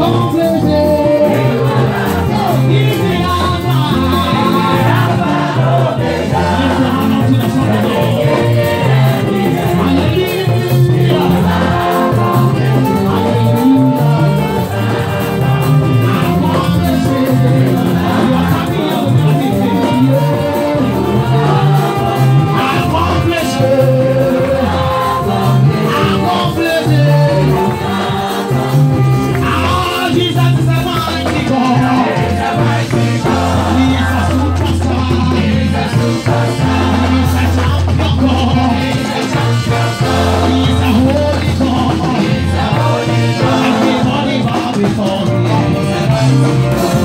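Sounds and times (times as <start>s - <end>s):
congregation singing along: 0.0s - 47.0s
worship team singing: 0.0s - 47.0s.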